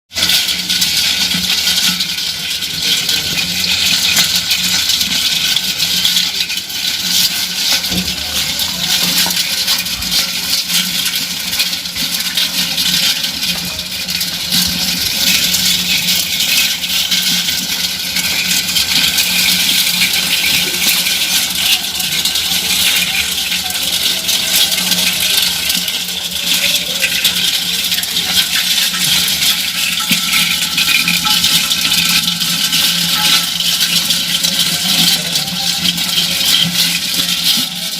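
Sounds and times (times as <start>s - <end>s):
crabs crackling clicks: 0.1s - 37.9s.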